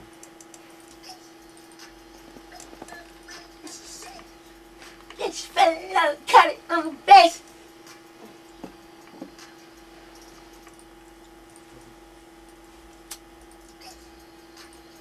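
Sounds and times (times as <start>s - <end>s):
faint electronic hum: 0.0s - 15.0s.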